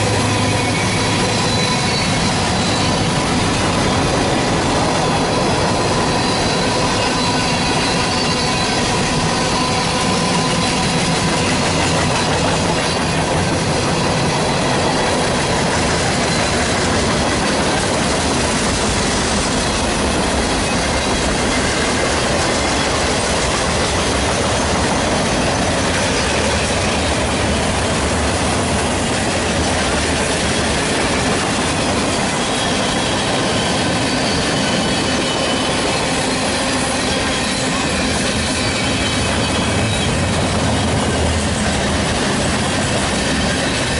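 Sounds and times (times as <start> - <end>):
high wheel squeals: 0.0 - 43.9
train wheels rumbling on rail: 0.0 - 43.9.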